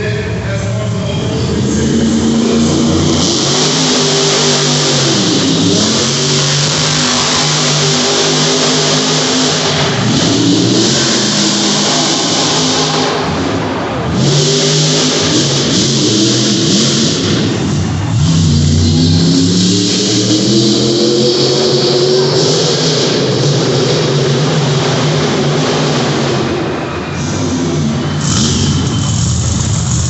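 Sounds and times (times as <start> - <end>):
monster truck engines revving: 0.0 - 30.0.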